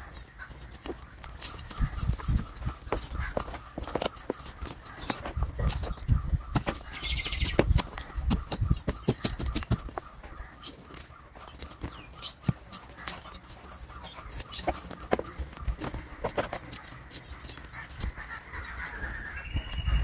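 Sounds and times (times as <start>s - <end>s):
roots crackling and scratching: 0.0s - 20.0s.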